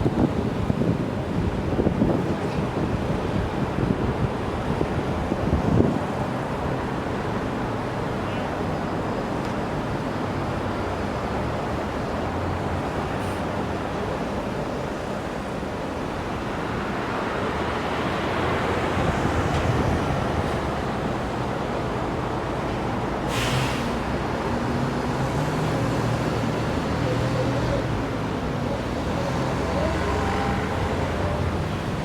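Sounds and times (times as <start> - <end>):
passing vehicles: 0.0 - 32.0.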